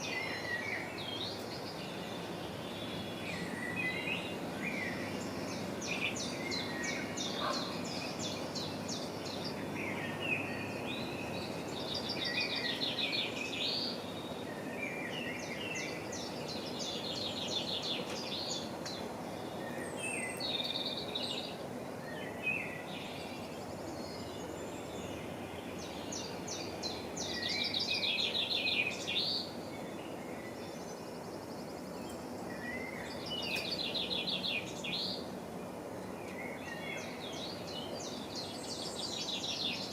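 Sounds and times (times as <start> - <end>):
songbird trilling and chirping: 0.0 - 35.3, 36.0 - 39.9.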